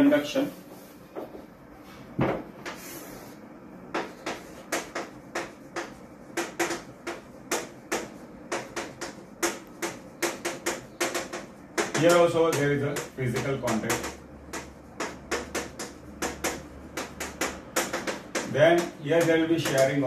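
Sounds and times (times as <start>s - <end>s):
loud knock: 2.2s - 2.6s, 3.9s - 19.9s
chalk tapping on blackboard: 2.2s - 20.0s.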